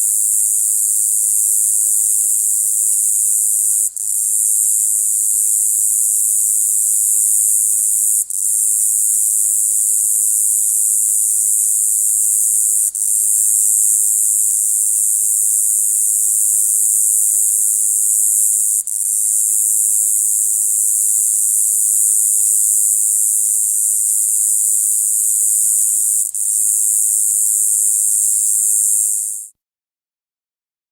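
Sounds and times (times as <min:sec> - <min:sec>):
cicada buzzing: 0:00.0 - 0:29.5.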